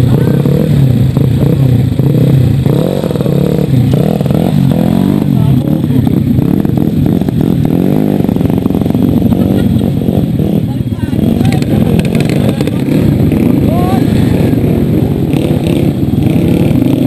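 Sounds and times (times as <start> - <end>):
dirt bike engines idling and revving: 0.0 - 17.0.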